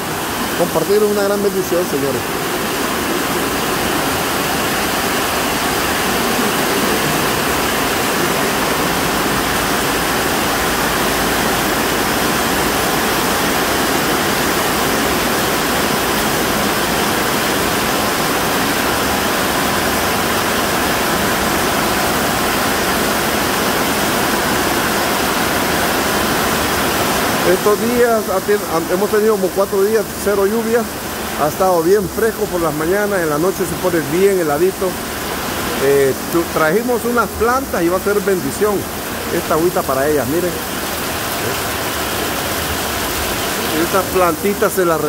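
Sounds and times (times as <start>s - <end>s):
rain on a metal roof: 0.0s - 45.0s.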